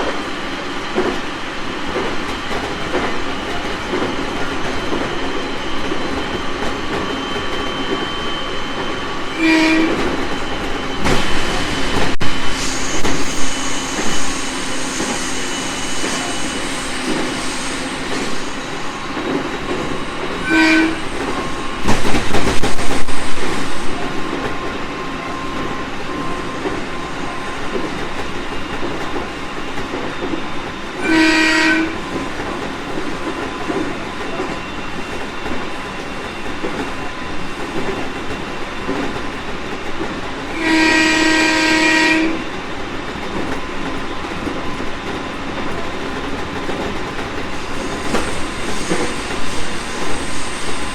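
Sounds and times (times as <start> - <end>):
train wheels on rails: 0.0 - 50.9.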